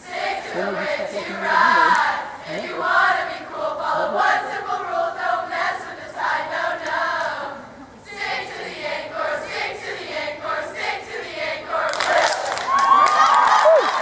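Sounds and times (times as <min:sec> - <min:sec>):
girls singing a cheer in unison: 0:00.0 - 0:14.0.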